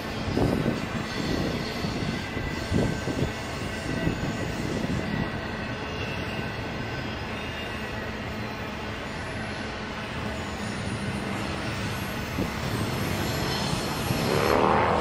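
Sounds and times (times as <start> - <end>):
freight train wheels rumbling: 0.0 - 15.0
faint wheel squeal: 0.4 - 14.3.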